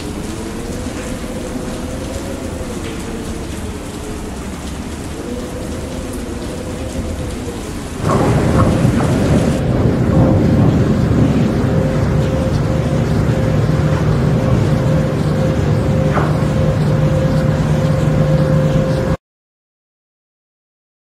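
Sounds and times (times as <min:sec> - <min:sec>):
rain: 0:00.0 - 0:19.2
thunder: 0:00.0 - 0:19.2
wind howling: 0:00.0 - 0:19.2.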